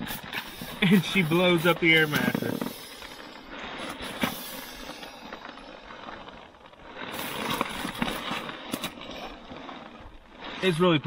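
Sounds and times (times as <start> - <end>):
nylon fabric rustling and crinkling: 0.0 - 11.0.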